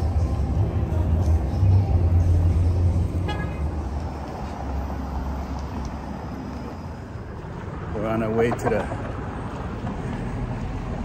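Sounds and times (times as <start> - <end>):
vehicle passing with low rumble: 0.0 - 11.0.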